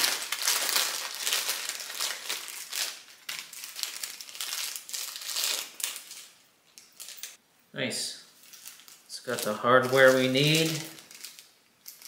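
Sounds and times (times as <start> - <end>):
plastic bag crinkling: 0.0 - 7.4, 8.4 - 12.0.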